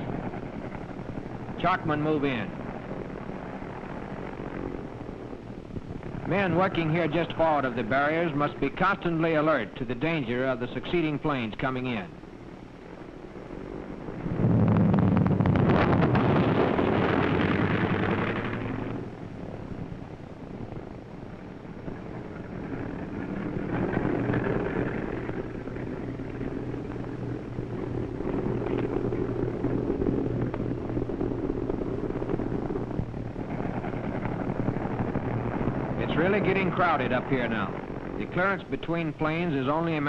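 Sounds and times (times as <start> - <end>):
propeller aircraft engines: 0.0 - 40.0.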